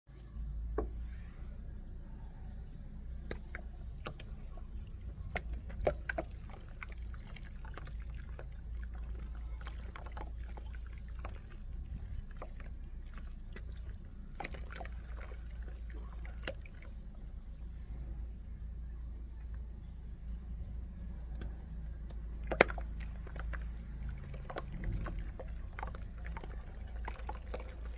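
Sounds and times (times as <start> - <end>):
steady low hum: 0.1 - 27.9.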